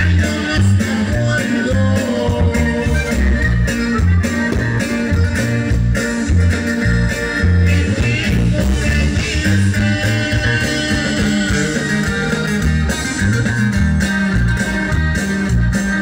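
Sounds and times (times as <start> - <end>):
accordion: 0.0 - 16.0
drums: 0.0 - 16.0
guitars: 0.0 - 16.0
sousaphone bass line: 0.0 - 16.0.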